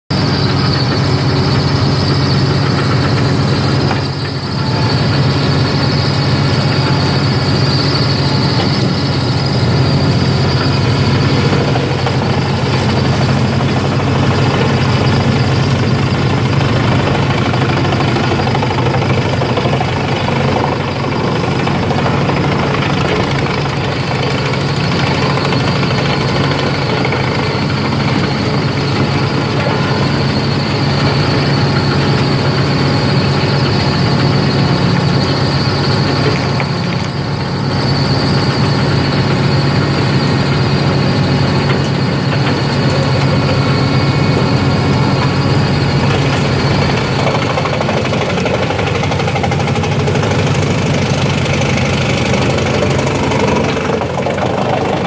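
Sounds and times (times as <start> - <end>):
wood chipper droning: 0.1 - 55.0.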